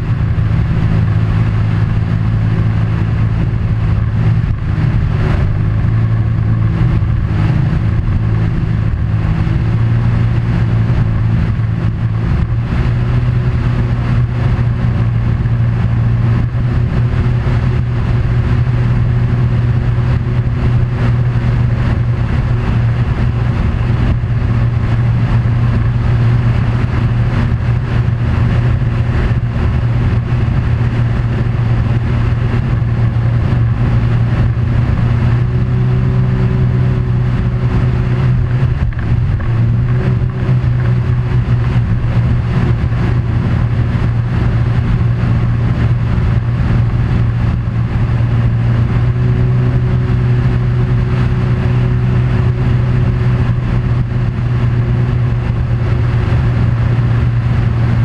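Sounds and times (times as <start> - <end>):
continuous rushing noise: 0.0 - 58.0
engine running steadily: 0.0 - 58.0.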